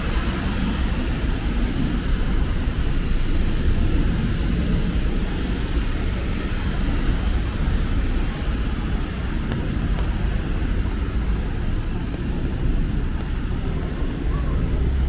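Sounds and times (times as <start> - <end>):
city traffic rumble: 0.0 - 15.0
rain hiss: 0.0 - 15.0.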